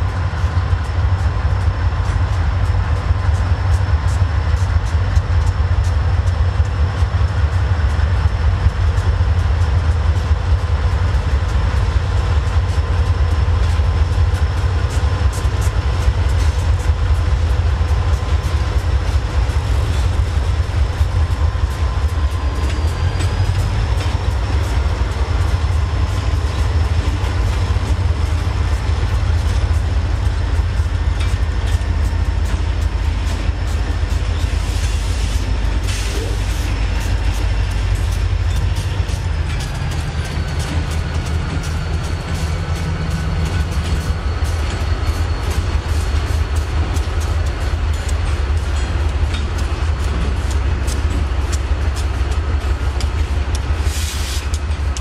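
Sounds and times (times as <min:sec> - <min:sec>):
diesel locomotives rumbling: 0:00.0 - 0:55.0
wheels clicking over rail joints: 0:00.0 - 0:55.0.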